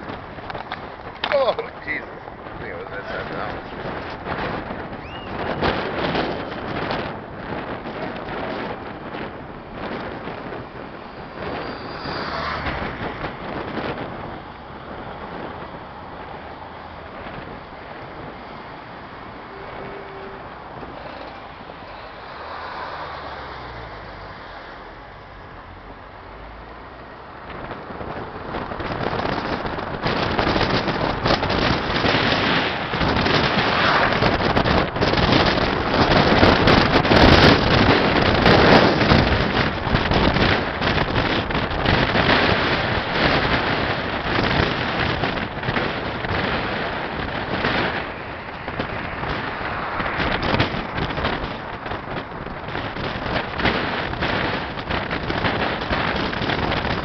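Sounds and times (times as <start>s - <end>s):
jeep engine: 0.0s - 57.0s
road noise: 0.0s - 57.0s
wind buffeting microphone: 0.0s - 57.0s.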